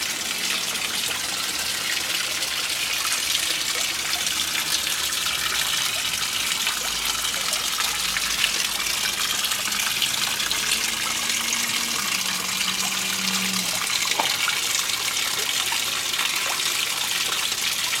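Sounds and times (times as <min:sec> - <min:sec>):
waterfall splashing into pond: 0:00.0 - 0:18.0.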